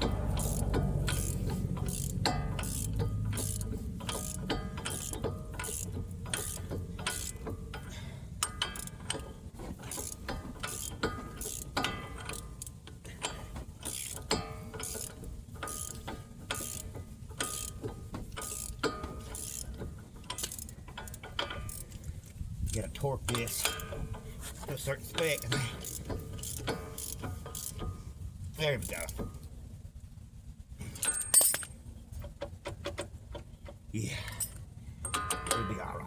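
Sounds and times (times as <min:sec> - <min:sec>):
hand ratchet clicking: 0:00.0 - 0:29.6, 0:30.9 - 0:36.0.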